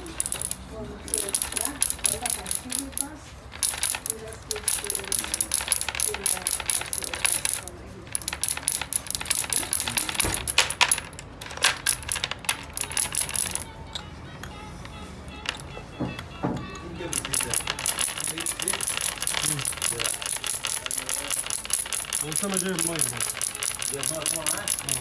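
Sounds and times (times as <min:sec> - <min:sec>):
thin high ringing: 0:00.0 - 0:15.9, 0:16.7 - 0:25.0
hand tools tapping metal: 0:00.0 - 0:25.0.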